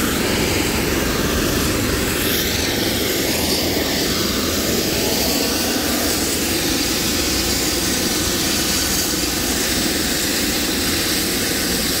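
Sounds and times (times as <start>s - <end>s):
helicopter turbine and rotor noise: 0.0s - 12.0s
steady high whine: 0.0s - 12.0s.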